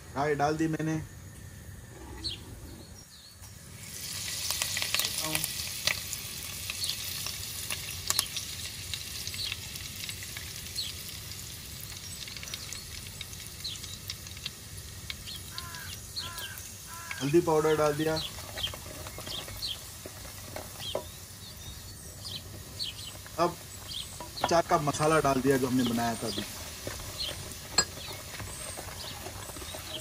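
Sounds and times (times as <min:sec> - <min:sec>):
oil sizzling with crackles: 0:03.4 - 0:30.0.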